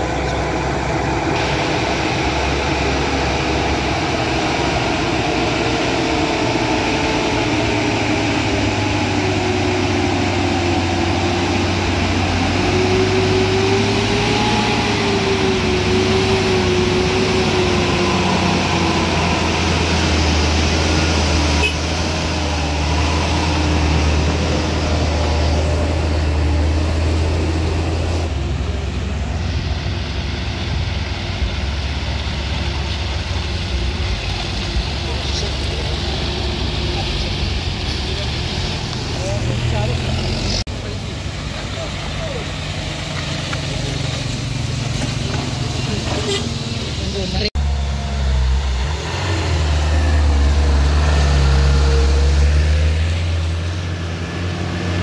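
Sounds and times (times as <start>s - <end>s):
heavy vehicle engines running: 0.0s - 55.0s.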